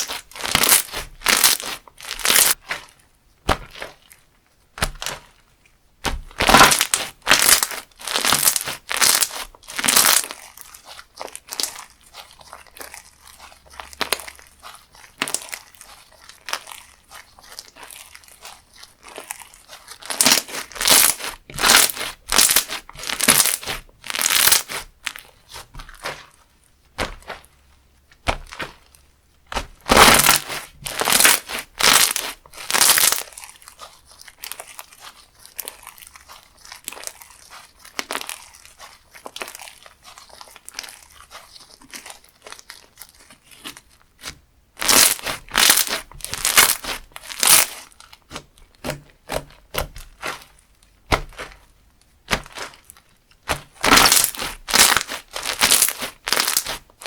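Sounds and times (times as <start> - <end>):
slime squishing and crackling: 0.0 - 57.0.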